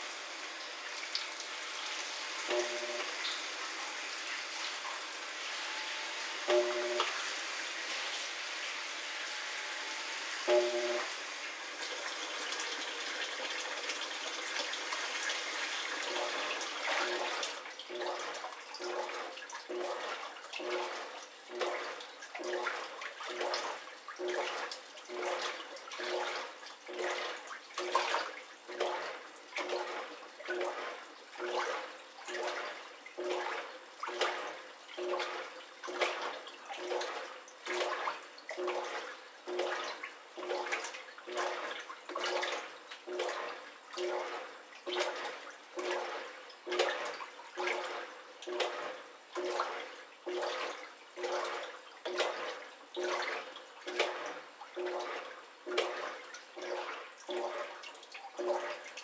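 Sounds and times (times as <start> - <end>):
washing machine motor hum: 0.0 - 58.9
washing machine water sloshing: 0.0 - 59.0.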